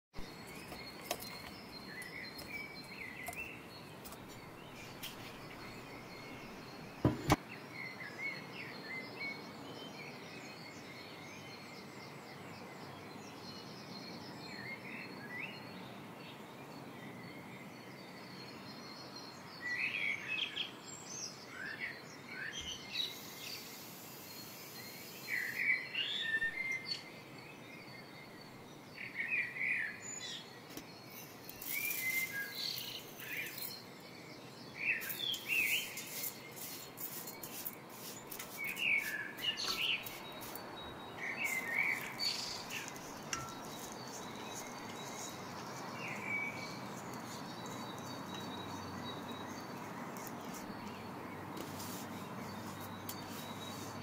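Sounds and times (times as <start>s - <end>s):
small birds chirping: 0.1s - 54.0s
steady background hiss: 0.2s - 54.0s.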